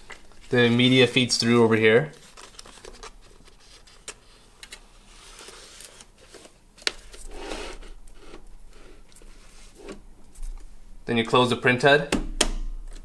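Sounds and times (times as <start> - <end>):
paper labels rustling and sliding: 0.0 - 10.7.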